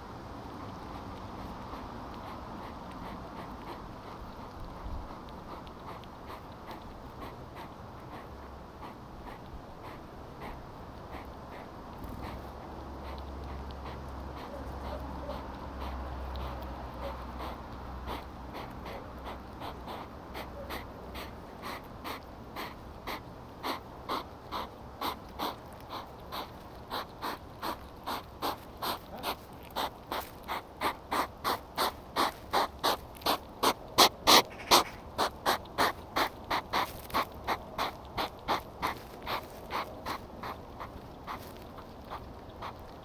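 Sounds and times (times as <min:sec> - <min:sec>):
hedgehog snorting: 0:00.6 - 0:43.0.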